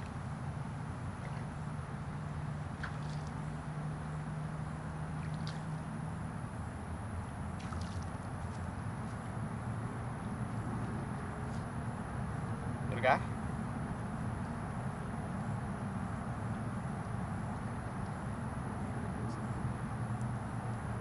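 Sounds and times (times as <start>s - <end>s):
low mechanical hum: 0.0s - 21.0s
outdoor noise: 0.0s - 21.0s.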